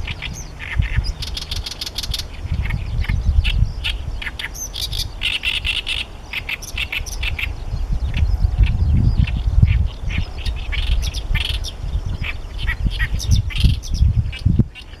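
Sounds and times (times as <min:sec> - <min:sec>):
warbler singing harsh chattering notes: 0:00.0 - 0:15.0
wind rumble on microphone: 0:00.0 - 0:15.0.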